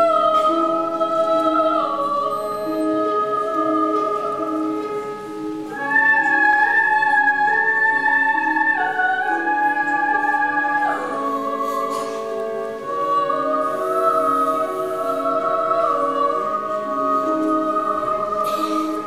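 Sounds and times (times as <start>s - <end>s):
slow lyrical stage music: 0.0s - 19.0s.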